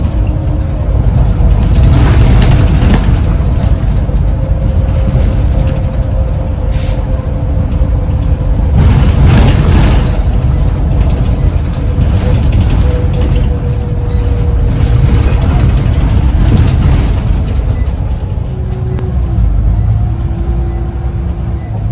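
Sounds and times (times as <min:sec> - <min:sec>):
bus engine rumble: 0:00.0 - 0:21.9.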